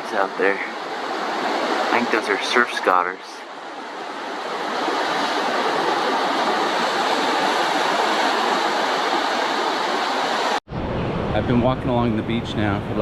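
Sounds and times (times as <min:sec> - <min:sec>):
ocean surf breaking on beach: 0:00.0 - 0:10.6.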